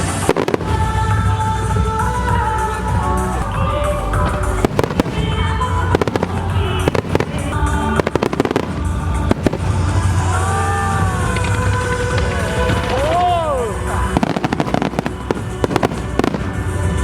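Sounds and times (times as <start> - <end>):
fireworks bursting and crackling: 0.0 - 17.0
loud music: 0.0 - 17.0
sharp bangs: 0.0 - 17.0.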